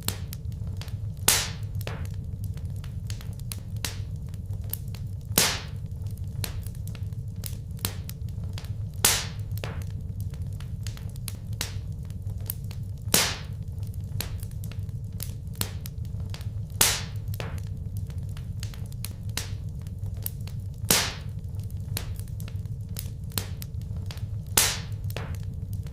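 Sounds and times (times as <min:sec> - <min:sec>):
loud pops from fire: 0:00.0 - 0:25.9
wood fire crackling: 0:00.0 - 0:25.9.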